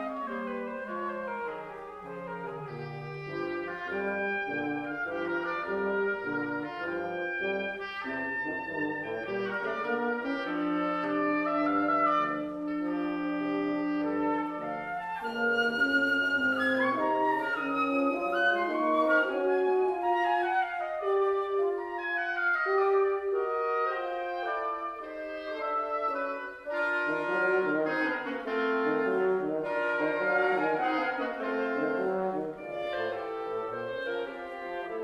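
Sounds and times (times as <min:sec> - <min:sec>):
wind quintet playing classical music: 0:00.0 - 0:35.0.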